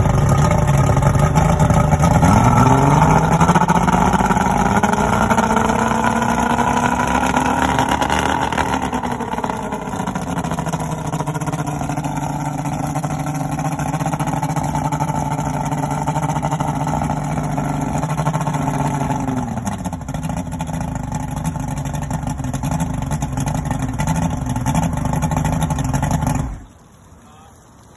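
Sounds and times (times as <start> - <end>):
outboard motor idling: 0.0 - 27.7.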